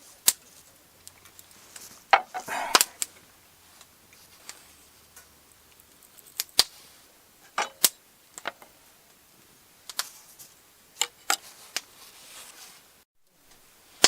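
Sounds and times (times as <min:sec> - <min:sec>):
campfire crackling and popping: 0:00.0 - 0:11.9.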